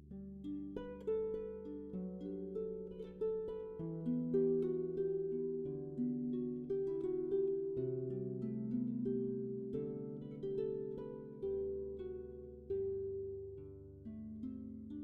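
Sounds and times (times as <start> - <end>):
solo harp melody: 0.0 - 15.0.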